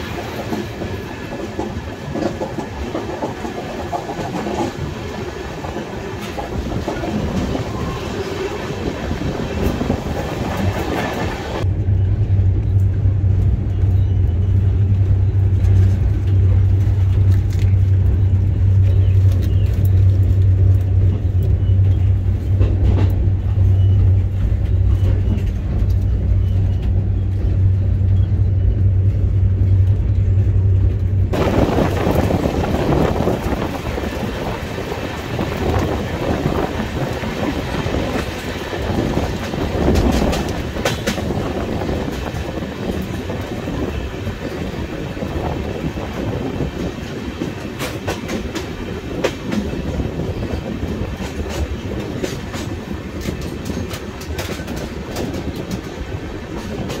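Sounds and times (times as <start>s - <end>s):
low hum of running train: 0.0s - 57.0s
train rumble and hiss: 0.0s - 57.0s.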